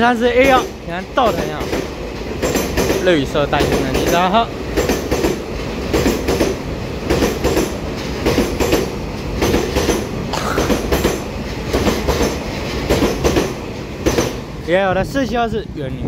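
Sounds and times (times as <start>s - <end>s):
train rolling rumble: 0.0s - 16.0s
wheel clacks over rail joints: 0.4s - 14.8s.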